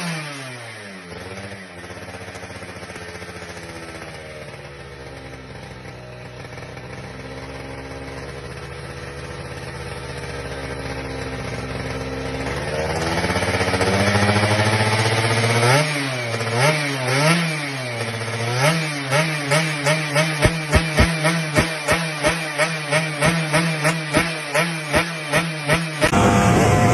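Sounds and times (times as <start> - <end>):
two-stroke engine idling and revving: 0.0 - 26.9.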